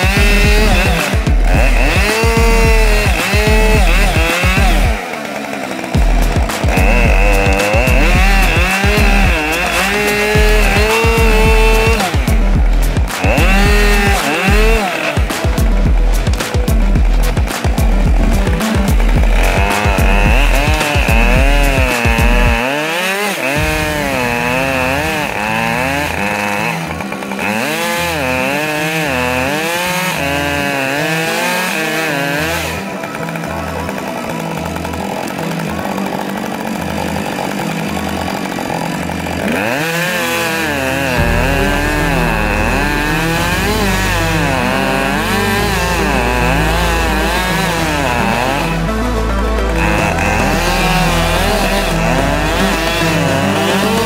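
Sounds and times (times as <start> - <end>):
background music: 0.0 - 54.0
chainsaw cutting wood: 0.0 - 54.0.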